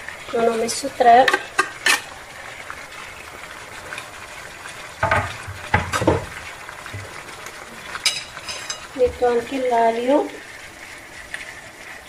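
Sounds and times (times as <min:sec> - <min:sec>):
frying pan sizzling: 0:00.0 - 0:12.0.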